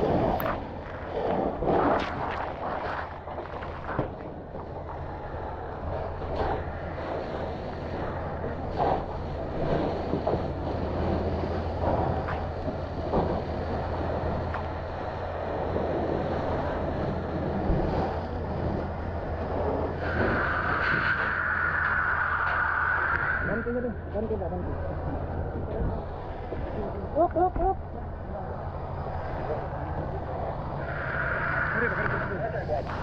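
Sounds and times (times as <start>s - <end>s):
low engine drone: 0.0s - 33.0s.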